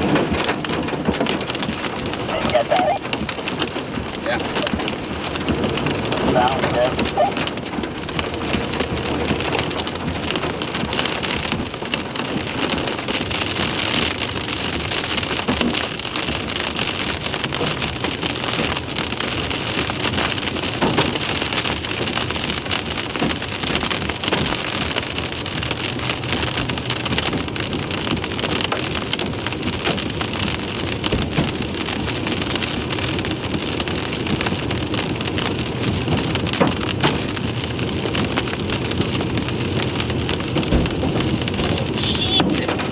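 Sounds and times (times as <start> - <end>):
hailstones knocking on car: 0.0 - 42.9
heavy rain on car: 0.0 - 42.9.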